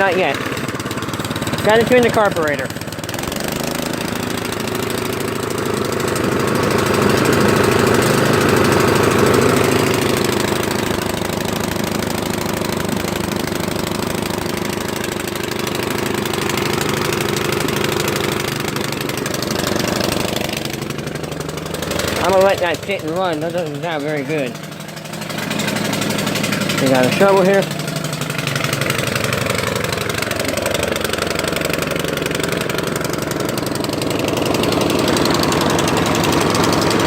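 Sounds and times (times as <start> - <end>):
snowblower engine running rough: 0.0 - 37.0.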